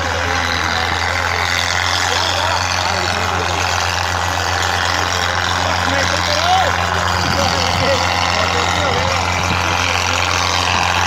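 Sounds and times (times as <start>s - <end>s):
crowd chatter and calls: 0.0s - 11.0s
tractor diesel engine running: 0.0s - 11.0s.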